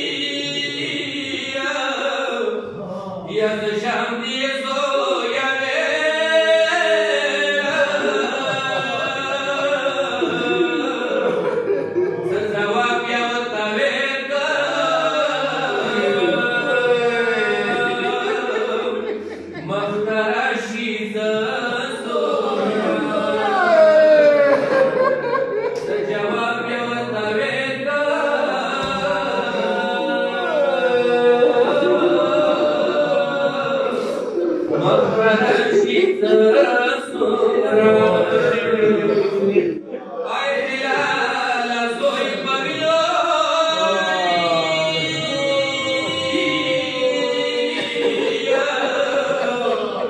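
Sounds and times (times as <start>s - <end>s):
man chanting into a microphone: 0.0s - 50.0s.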